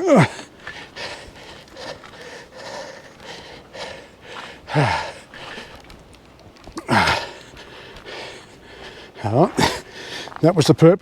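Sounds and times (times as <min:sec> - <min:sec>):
man sighing: 0:00.0 - 0:05.8, 0:06.7 - 0:10.3
man breathing hard: 0:00.0 - 0:10.4.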